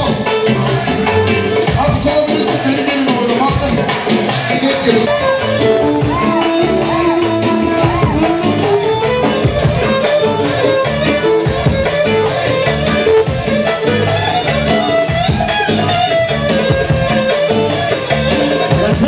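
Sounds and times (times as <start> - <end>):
instrumental music with beat: 0.0 - 19.0.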